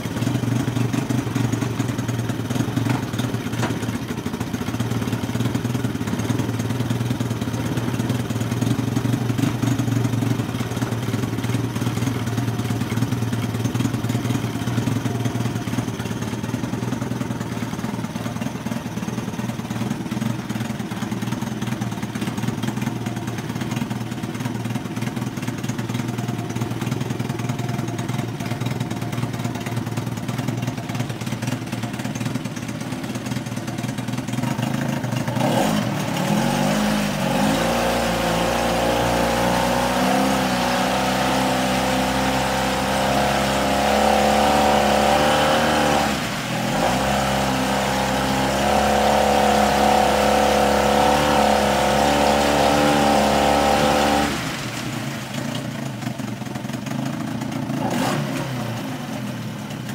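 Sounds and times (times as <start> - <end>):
outboard engine running: 0.0 - 59.9
propeller churning water: 0.0 - 59.9.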